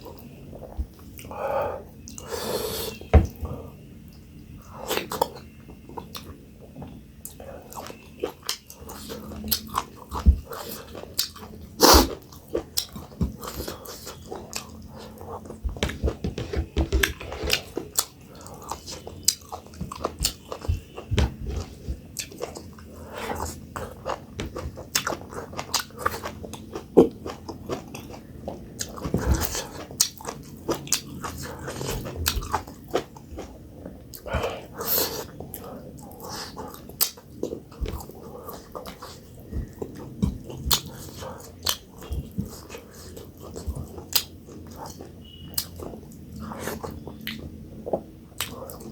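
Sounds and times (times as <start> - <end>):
person chewing and biting food: 7.3 - 48.9.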